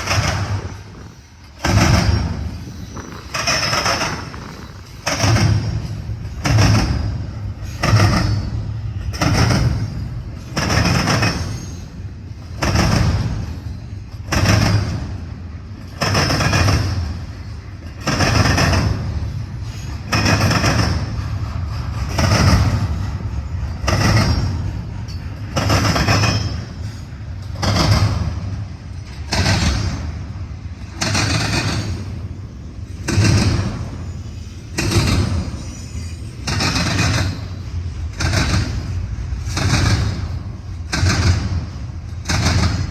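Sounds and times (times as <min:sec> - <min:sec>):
train rumble: 0:00.0 - 0:42.9
train wheels clanking over rail joints: 0:00.0 - 0:42.9.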